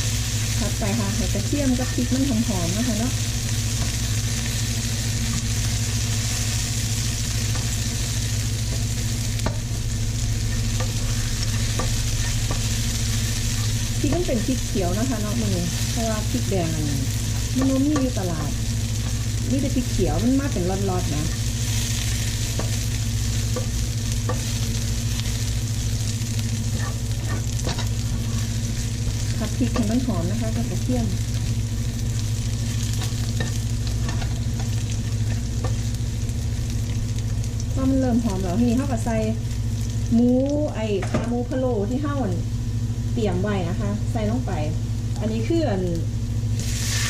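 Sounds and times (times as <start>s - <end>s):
food sizzling in oil: 0.0s - 47.0s
low hum: 0.0s - 47.0s.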